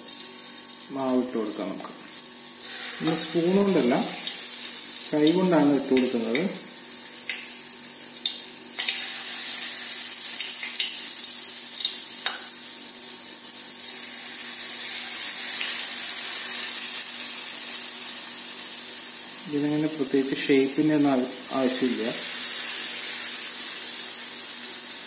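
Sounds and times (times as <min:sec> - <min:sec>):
batter sizzling in hot oil: 0:00.0 - 0:25.0.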